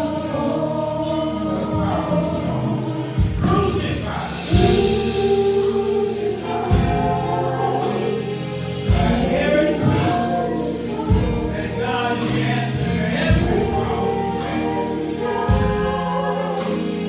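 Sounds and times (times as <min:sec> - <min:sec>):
gospel choir singing: 0:00.0 - 0:17.0
instrumental backing: 0:00.0 - 0:17.0.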